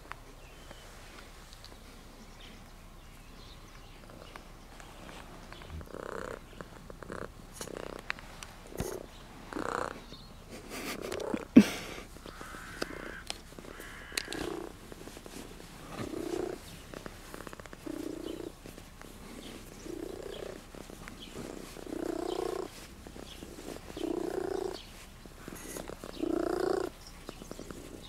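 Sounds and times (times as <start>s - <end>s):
cat purring: 4.0s - 28.0s.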